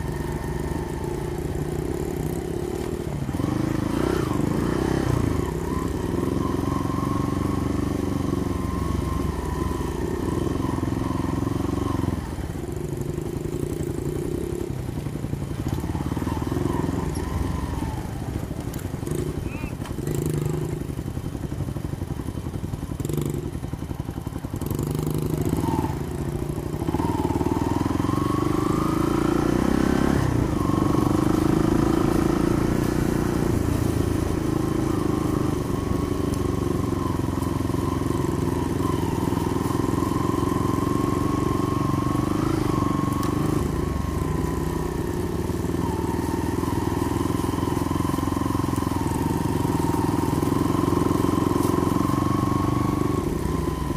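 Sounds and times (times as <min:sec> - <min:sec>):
small engine revving: 0:00.0 - 0:14.7, 0:15.4 - 0:21.0, 0:22.9 - 0:53.9.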